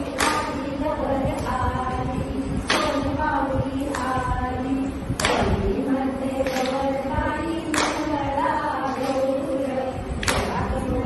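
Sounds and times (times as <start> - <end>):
women singing in unison: 0.0 - 11.0.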